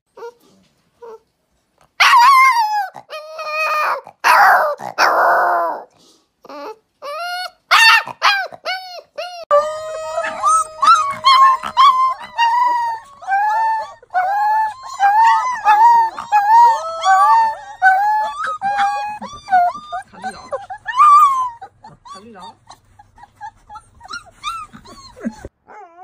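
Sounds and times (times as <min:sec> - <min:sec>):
puppies howling: 0:02.0 - 0:05.8, 0:06.6 - 0:26.0.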